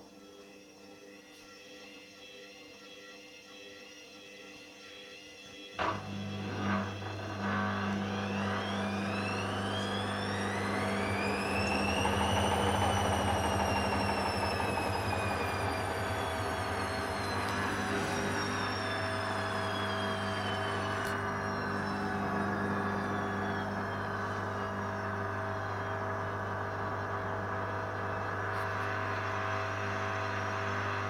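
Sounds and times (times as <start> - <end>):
washing machine spin motor whine: 0.0 - 31.0.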